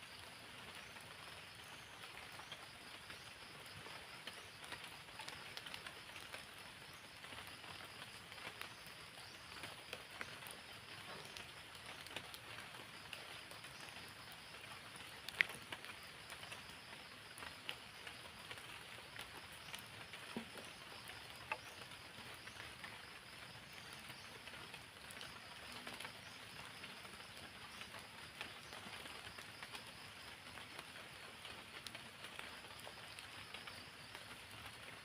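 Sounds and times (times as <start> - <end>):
light rain: 0.0 - 35.0.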